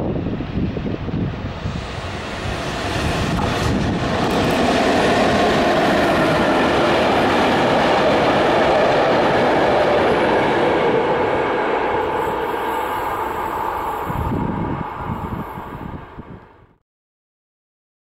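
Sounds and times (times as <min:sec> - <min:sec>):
freight train passing close: 0:00.0 - 0:16.8.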